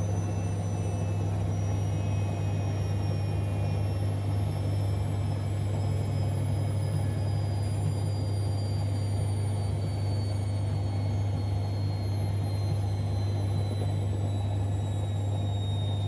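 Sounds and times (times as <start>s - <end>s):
faint high whine: 0.0s - 16.0s
washing machine humming: 0.0s - 16.0s.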